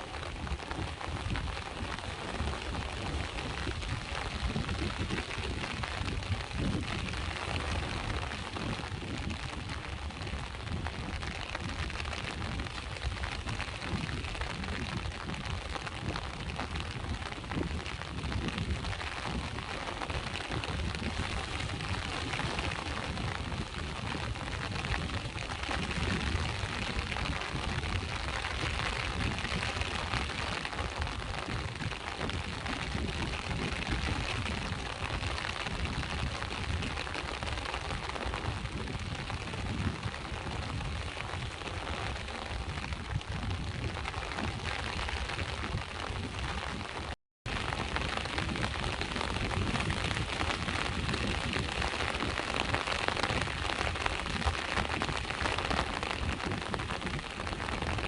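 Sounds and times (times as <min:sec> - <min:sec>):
rain falling: 0:00.0 - 0:58.0
sea waves washing on shore: 0:00.0 - 0:58.0.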